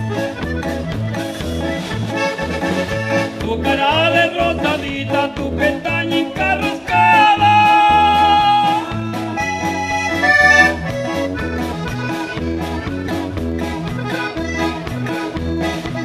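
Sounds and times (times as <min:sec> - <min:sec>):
accordion melody: 0:00.0 - 0:16.0
bass line: 0:00.0 - 0:16.0
drum kit beat: 0:00.0 - 0:16.0.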